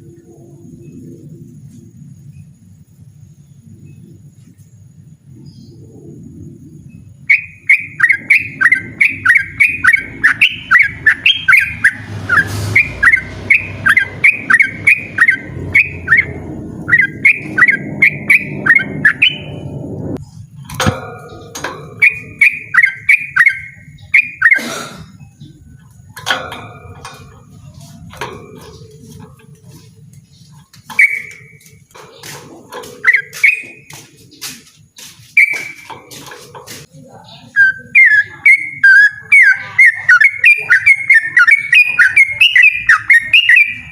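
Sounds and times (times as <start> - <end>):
bird singing downward-sweeping notes: 0.0 - 43.9.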